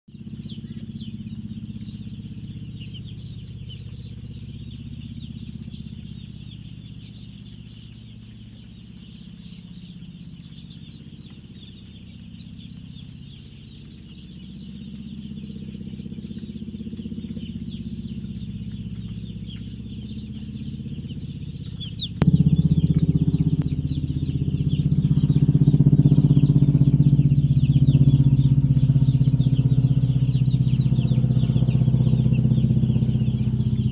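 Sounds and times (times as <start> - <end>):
loud low drone: 0.1 - 33.9
steady low hum: 0.1 - 33.9
chickens calling: 0.2 - 33.9.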